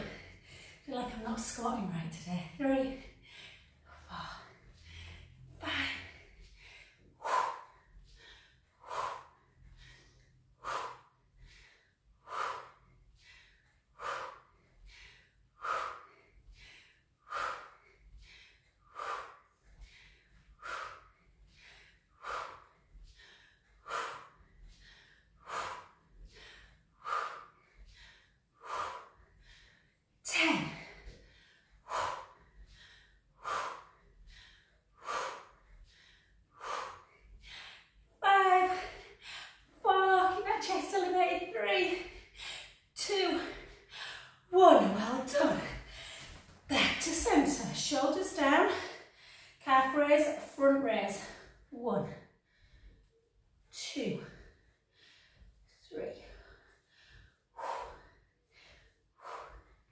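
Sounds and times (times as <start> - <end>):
woman breathing hard: 0.0 - 0.9, 2.9 - 49.6, 51.2 - 59.9.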